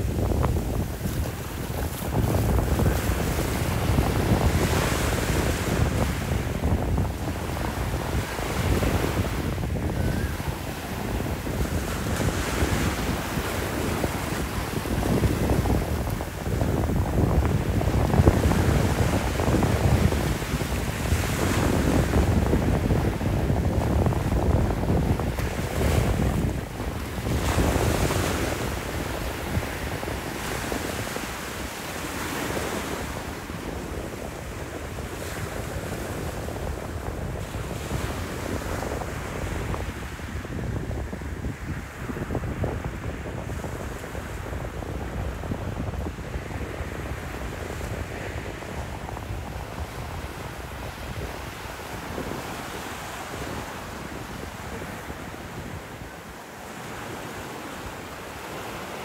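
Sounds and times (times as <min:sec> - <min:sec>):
small waves washing on beach: 0:00.0 - 0:59.0
wind rumbling on microphone: 0:00.0 - 0:59.0.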